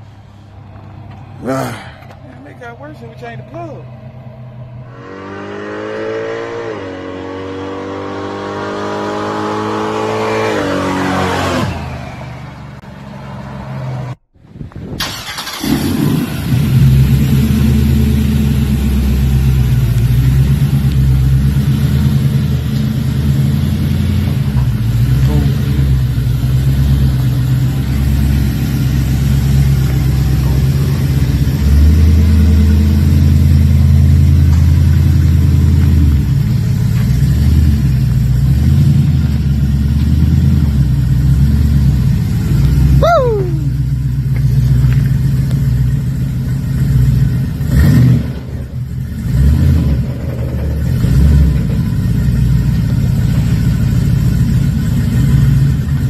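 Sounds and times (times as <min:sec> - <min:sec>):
car engine starting and running: 0:00.0 - 0:56.0.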